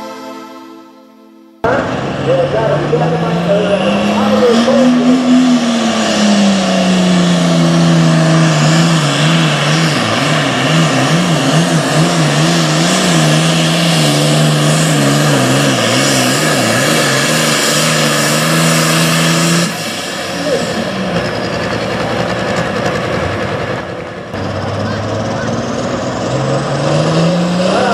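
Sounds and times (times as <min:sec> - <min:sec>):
tractor diesel engine under load: 0:01.6 - 0:27.9.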